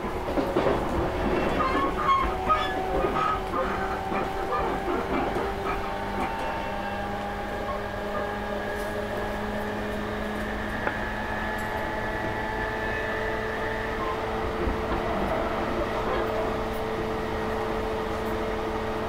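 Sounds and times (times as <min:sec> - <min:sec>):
train running rumble and hum: 0:00.0 - 0:19.0.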